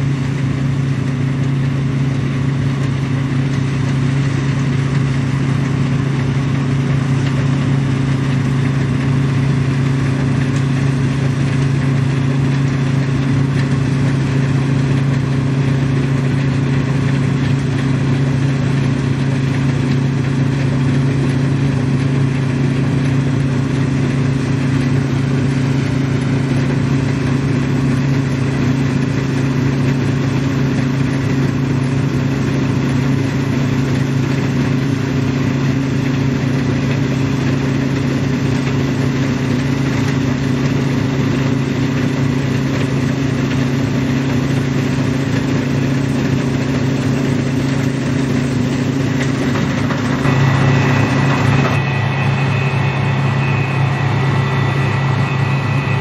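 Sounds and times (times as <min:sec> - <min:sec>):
combine harvester engine and threshing drone: 0:00.0 - 0:56.0.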